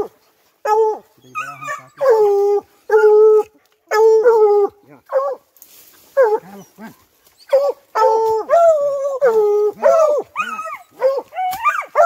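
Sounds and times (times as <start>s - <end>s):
hound baying: 0.0s - 5.4s, 6.1s - 12.0s.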